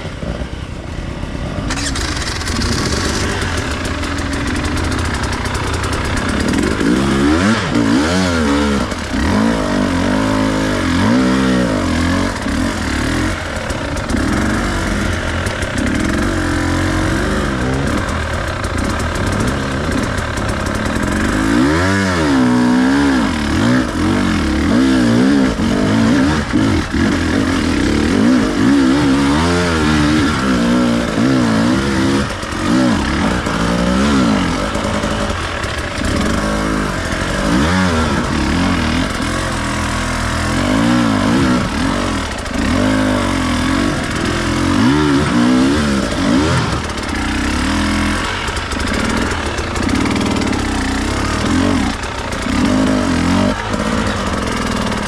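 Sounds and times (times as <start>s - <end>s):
dirt bike engine revving: 1.4s - 55.0s.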